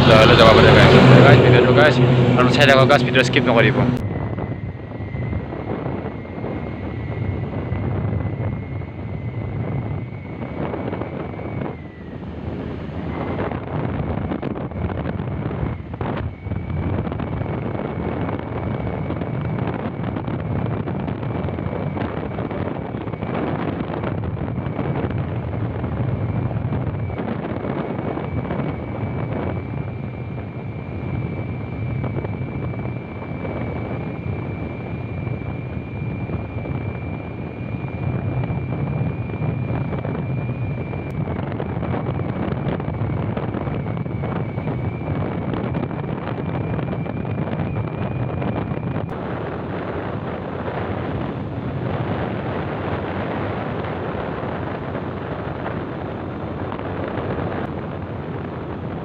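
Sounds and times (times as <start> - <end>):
motorbike engine and tyre noise: 0.0 - 59.0
thin high whine: 0.0 - 59.0
wind buffeting microphone: 0.0 - 59.0.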